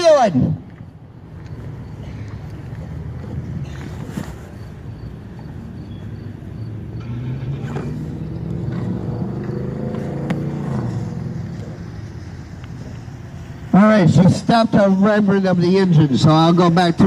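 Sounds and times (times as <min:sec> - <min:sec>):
truck engine revving: 0:02.4 - 0:16.8.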